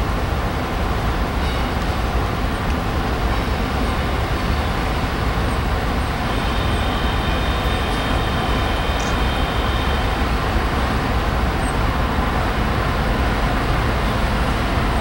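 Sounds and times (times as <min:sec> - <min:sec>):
diesel locomotives rumbling: 0:00.0 - 0:15.0.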